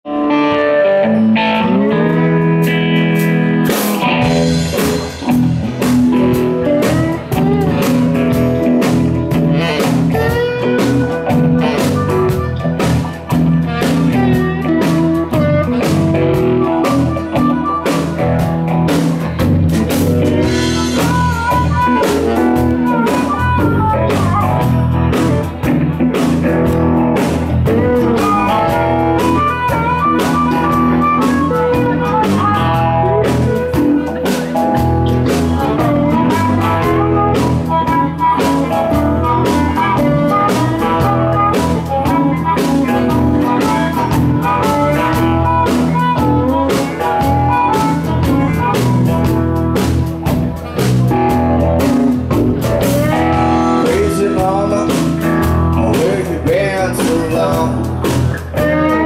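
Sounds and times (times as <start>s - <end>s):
electric guitars: 0.0s - 59.0s
drums: 0.1s - 59.0s
harmonica: 5.8s - 19.3s, 19.9s - 25.8s, 26.4s - 50.1s, 52.8s - 57.7s.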